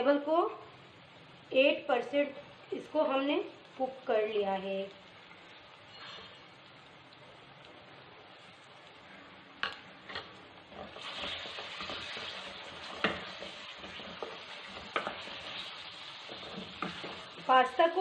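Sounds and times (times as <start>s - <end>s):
chicken and cabbage sizzling: 0.0s - 18.0s.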